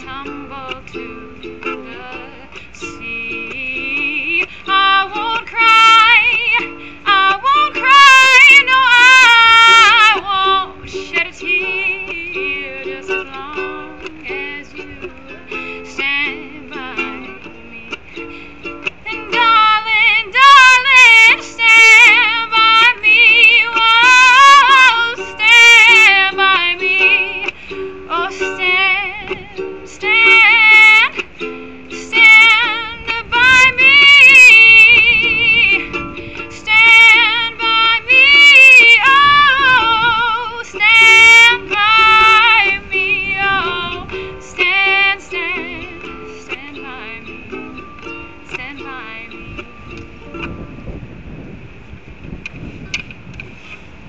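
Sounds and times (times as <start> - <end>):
woman singing with vibrato: 0.0 - 50.6
ukulele strumming chords: 0.0 - 53.5.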